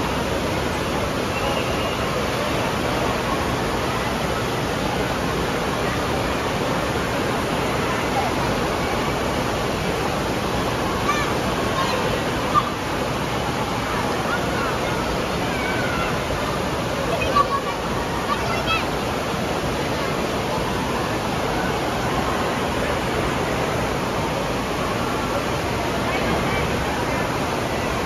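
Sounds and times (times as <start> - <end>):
water gushing into pool: 0.0 - 28.0
faint voices and shouts: 1.2 - 28.0.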